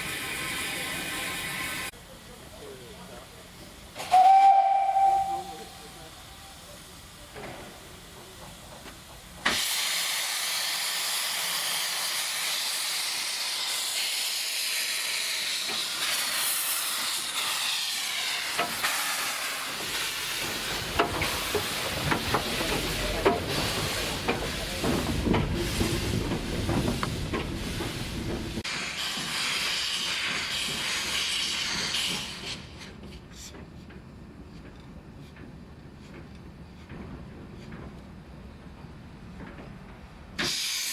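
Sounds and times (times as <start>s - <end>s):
steam locomotive hissing steam: 0.0s - 35.3s, 40.3s - 40.9s.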